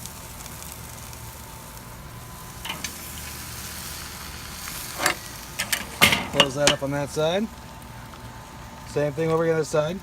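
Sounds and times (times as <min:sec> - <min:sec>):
wood chips sizzling on charcoal: 0:00.0 - 0:10.0.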